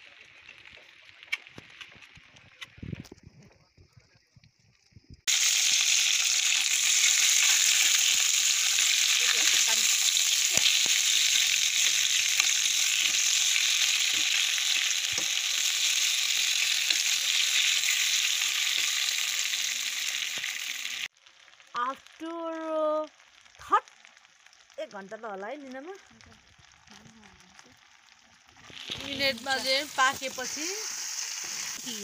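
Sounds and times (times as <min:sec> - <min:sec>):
vegetables sizzling in a pan: 0:05.2 - 0:32.0.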